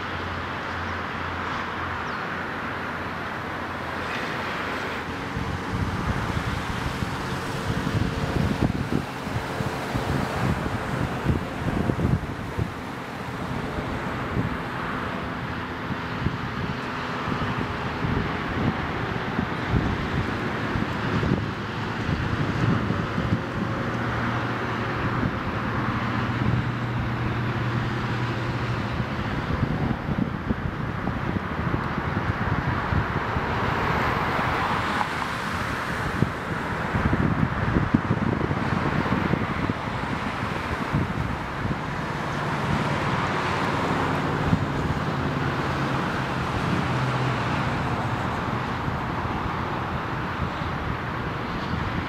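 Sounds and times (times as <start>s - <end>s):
cars passing with tyre hiss: 0.0s - 52.0s
low engine hum: 0.0s - 52.0s
wind buffeting microphone: 1.4s - 52.0s
truck driving away: 1.9s - 51.9s.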